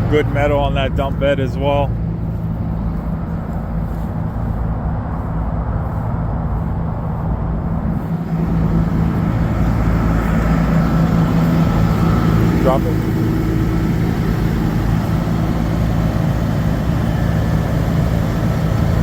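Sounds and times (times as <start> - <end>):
diesel truck engine idling: 0.0 - 19.0
faint whine: 0.0 - 19.0.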